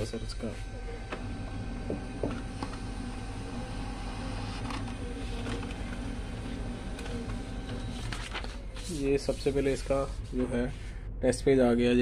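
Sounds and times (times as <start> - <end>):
laser printer humming: 0.0 - 10.5
high whine: 0.0 - 12.0.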